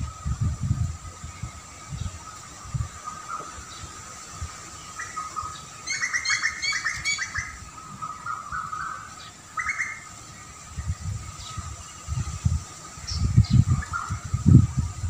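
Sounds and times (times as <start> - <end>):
songbird chirping: 0.0 - 14.9.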